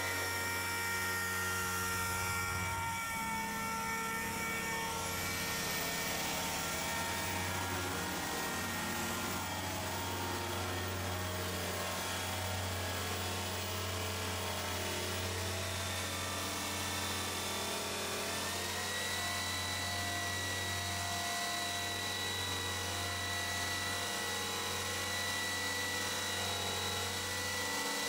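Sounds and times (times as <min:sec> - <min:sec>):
power sander on sheet metal: 0:00.0 - 0:28.0.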